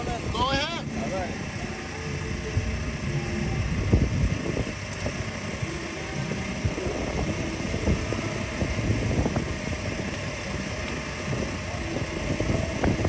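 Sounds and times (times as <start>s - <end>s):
wind buffeting microphone: 2.2s - 13.0s.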